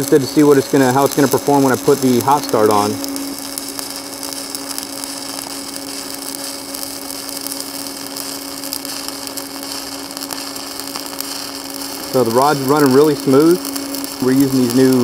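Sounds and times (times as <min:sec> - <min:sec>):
welding arc hissing: 0:00.0 - 0:15.0.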